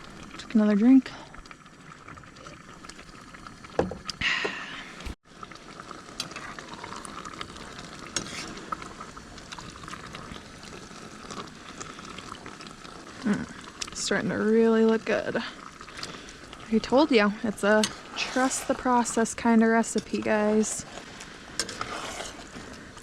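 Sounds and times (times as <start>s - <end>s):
sauce bubbling in a pot: 0.0s - 23.0s.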